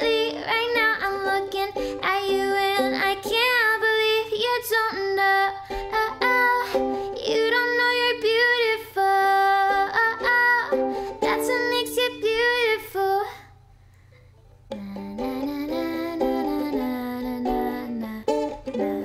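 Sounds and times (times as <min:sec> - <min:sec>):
strummed ukulele: 0:00.0 - 0:13.0, 0:14.3 - 0:19.0
person singing: 0:00.0 - 0:13.4, 0:14.7 - 0:19.0.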